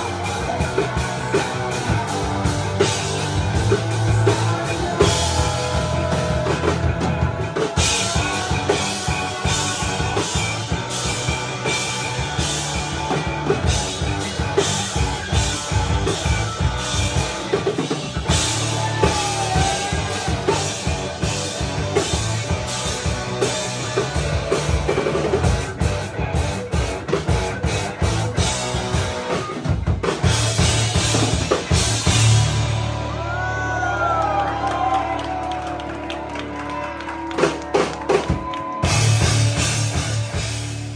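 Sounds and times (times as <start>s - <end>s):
drum kit hit hard and fast: 0.0s - 33.6s
amplified electric guitar: 0.0s - 40.9s.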